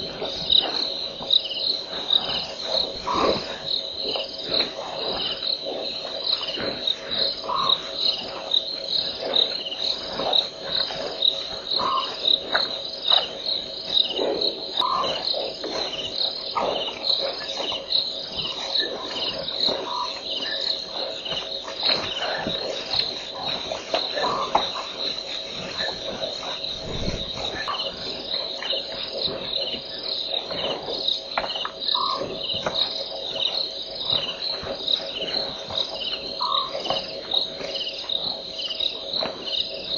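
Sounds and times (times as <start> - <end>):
insects chirping: 0.0 - 39.9
low insect drone: 0.0 - 39.9
short insect calls: 0.0 - 39.9.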